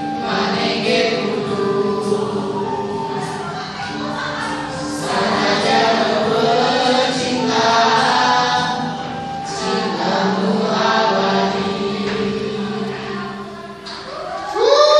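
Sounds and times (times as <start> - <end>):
group of teenagers singing: 0.0 - 14.9.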